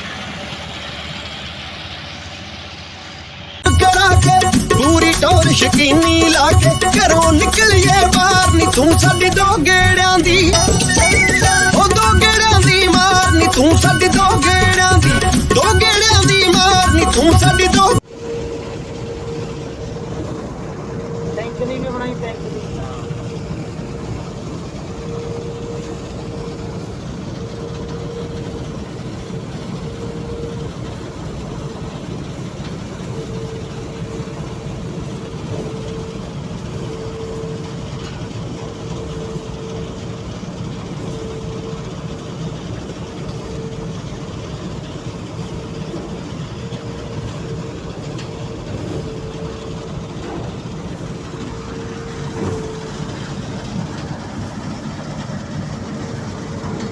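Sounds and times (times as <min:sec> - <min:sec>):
combine harvester droning: 0:00.0 - 0:56.9.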